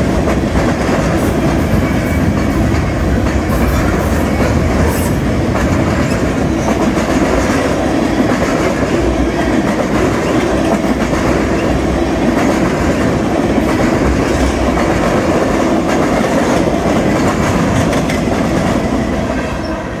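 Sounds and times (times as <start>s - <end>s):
train wheels clattering: 0.0s - 19.9s
train cars rumbling by: 0.0s - 20.0s.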